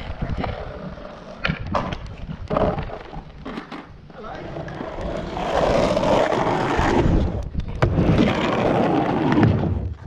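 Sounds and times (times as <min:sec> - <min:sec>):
skateboard wheels rumbling on ramp: 0:00.0 - 0:10.0.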